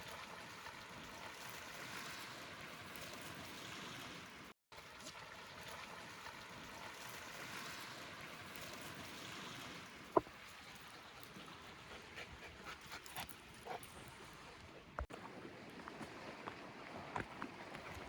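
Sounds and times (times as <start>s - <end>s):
lake water lapping: 0.0s - 18.0s.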